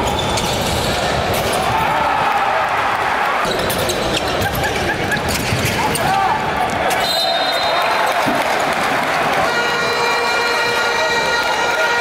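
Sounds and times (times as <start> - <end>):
indoor arena din with voices: 0.0 - 12.0.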